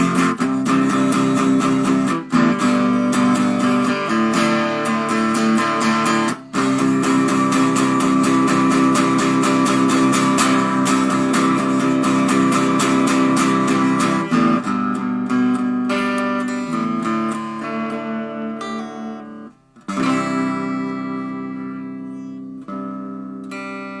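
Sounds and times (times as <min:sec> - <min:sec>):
guitar strumming chords: 0:00.0 - 0:24.0.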